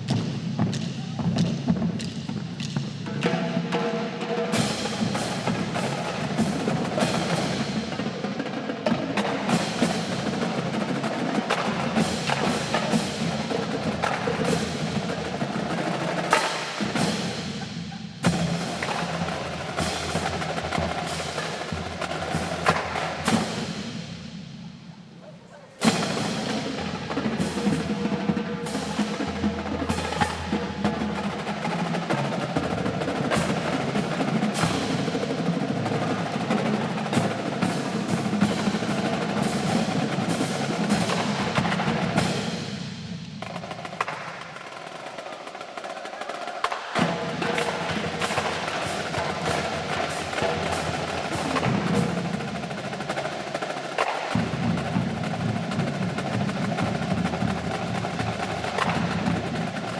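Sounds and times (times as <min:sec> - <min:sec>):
marching drum line cadence: 0:00.0 - 0:59.9.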